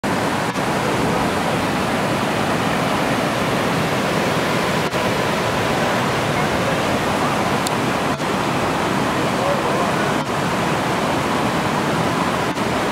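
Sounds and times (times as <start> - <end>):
water rushing over rocks: 0.0 - 12.9.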